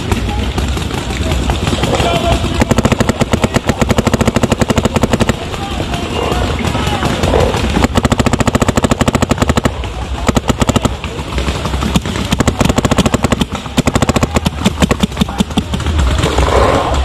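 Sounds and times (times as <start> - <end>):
paintball markers firing bursts: 0.0 - 16.8.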